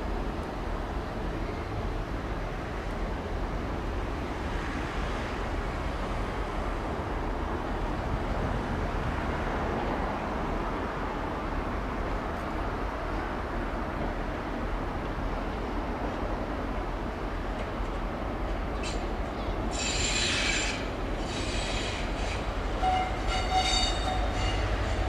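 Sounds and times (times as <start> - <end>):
rail and wheel noise: 0.0 - 25.0.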